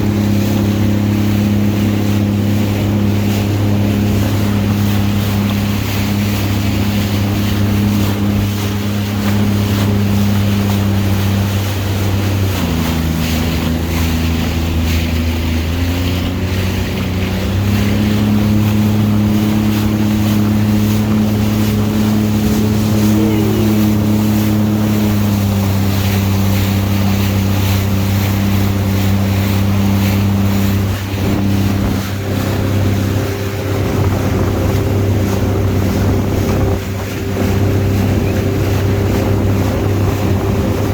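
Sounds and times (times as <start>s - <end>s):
jet ski engine running: 0.0s - 40.9s
wind and water rushing: 0.0s - 40.9s.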